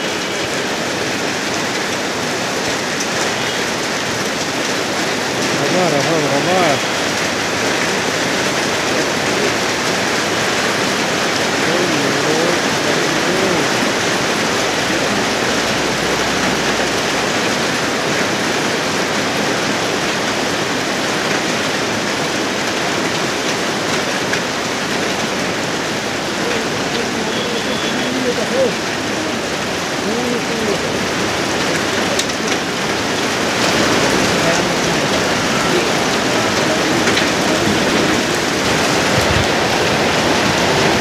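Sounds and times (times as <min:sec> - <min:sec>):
heavy hail falling: 0:00.0 - 0:41.0.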